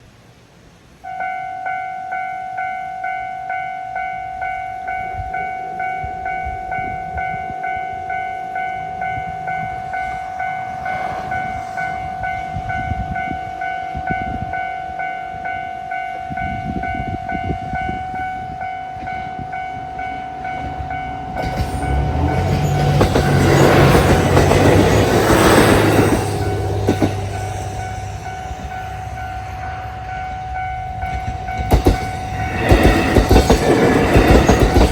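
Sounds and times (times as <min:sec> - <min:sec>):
train passing: 0:00.0 - 0:34.9
level-crossing warning bell ringing: 0:01.0 - 0:34.9.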